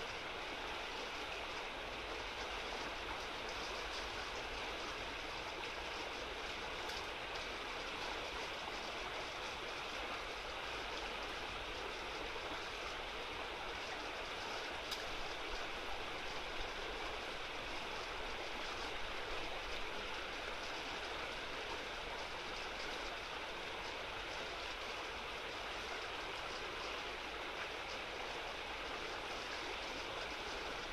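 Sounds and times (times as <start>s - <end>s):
flowing river water: 0.0s - 30.9s.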